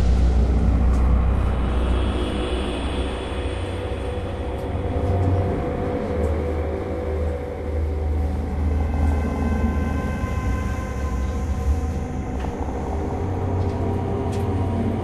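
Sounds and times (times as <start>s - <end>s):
deep rumbling drone: 0.0s - 15.0s.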